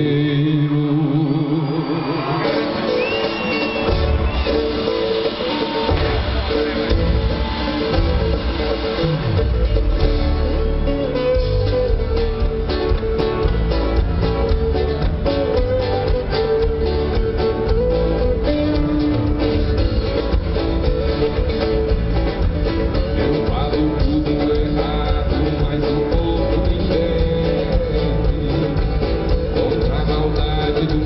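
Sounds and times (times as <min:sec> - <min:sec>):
live band playing instrumental: 0:01.8 - 0:31.0
guitar picking melody: 0:02.2 - 0:31.0.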